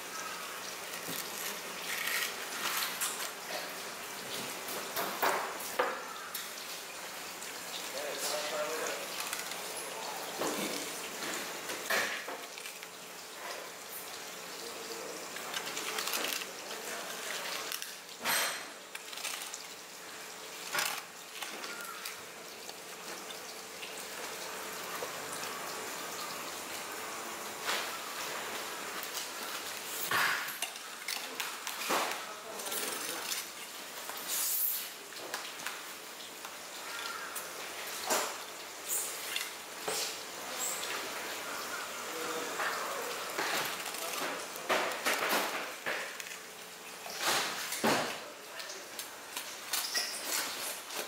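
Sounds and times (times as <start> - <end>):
background hiss: 0.0 - 51.0.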